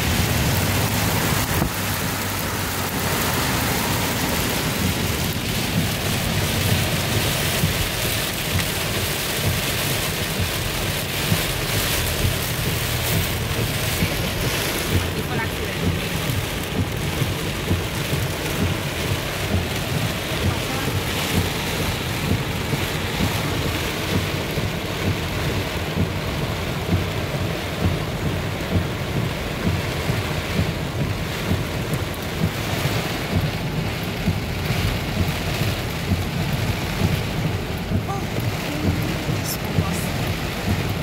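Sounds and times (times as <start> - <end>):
heavy rain on car roof: 0.0 - 41.0.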